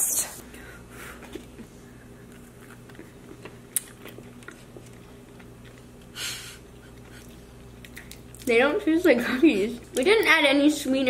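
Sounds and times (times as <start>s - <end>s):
faint steady hum: 0.0s - 11.0s
people chewing cookies: 0.8s - 10.3s.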